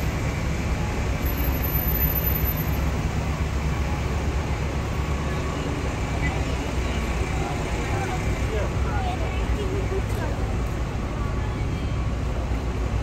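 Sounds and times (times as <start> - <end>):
low rumble of vehicles: 0.0 - 13.0.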